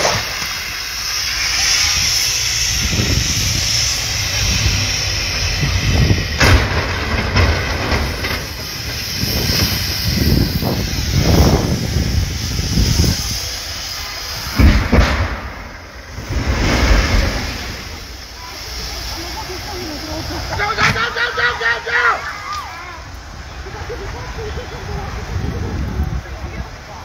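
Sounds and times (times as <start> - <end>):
vehicles sliding and crashing: 0.0 - 25.6
wind buffeting microphone: 1.8 - 20.9, 23.0 - 27.0.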